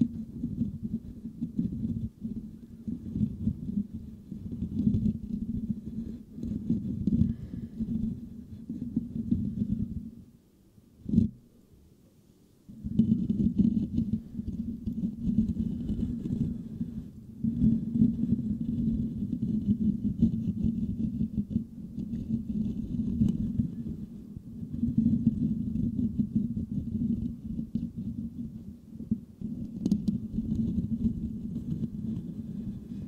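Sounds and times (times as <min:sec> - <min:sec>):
fingertips scratching microphone grille: 0:00.0 - 0:10.2, 0:11.0 - 0:11.4, 0:12.7 - 0:33.0.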